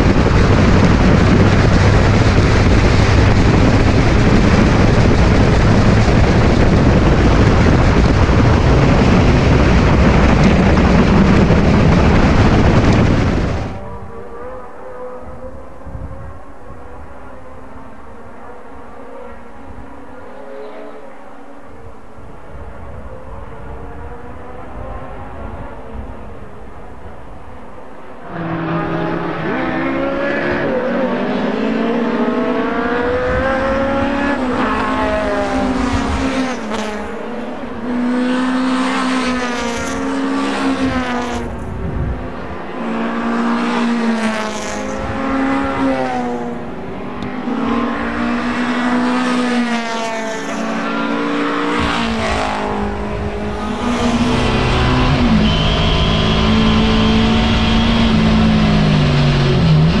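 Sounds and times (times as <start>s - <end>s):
race car engines at full throttle: 0.0s - 60.0s.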